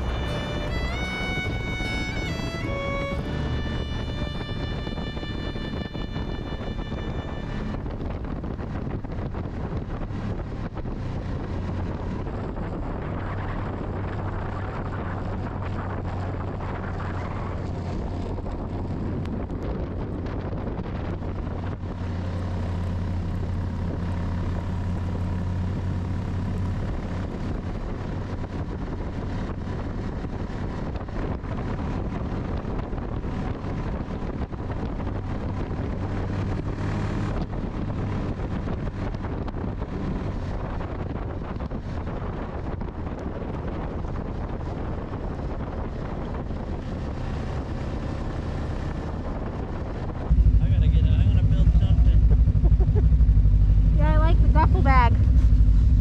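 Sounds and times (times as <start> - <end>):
snowmobile engine drone: 0.0 - 56.0
wind noise on microphone: 0.0 - 56.0.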